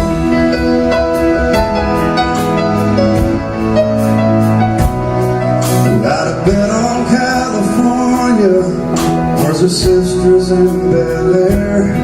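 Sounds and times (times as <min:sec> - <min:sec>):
piano and keyboard chords: 0:00.0 - 0:12.0
steady drum beat: 0:00.0 - 0:12.0.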